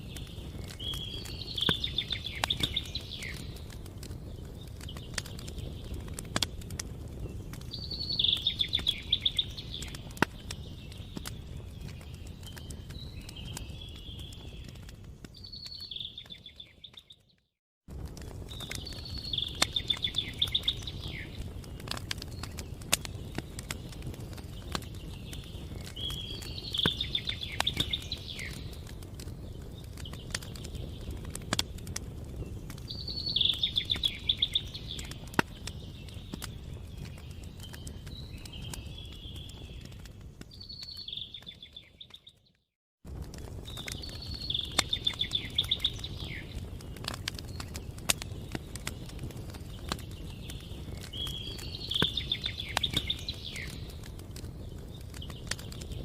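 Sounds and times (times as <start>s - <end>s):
campfire crackling: 0.0s - 17.2s, 17.8s - 42.4s, 43.0s - 56.0s.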